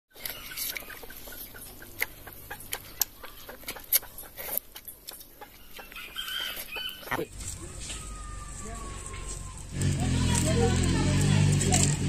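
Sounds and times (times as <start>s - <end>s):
chickens clucking: 0.2s - 12.0s.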